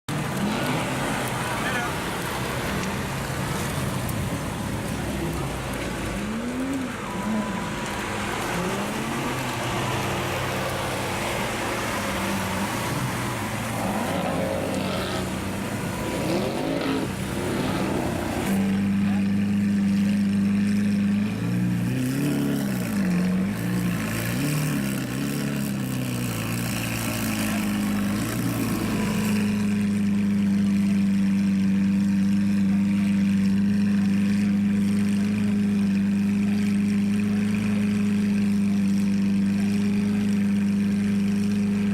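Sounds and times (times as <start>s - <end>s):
sports car engine revving: 0.2s - 41.9s.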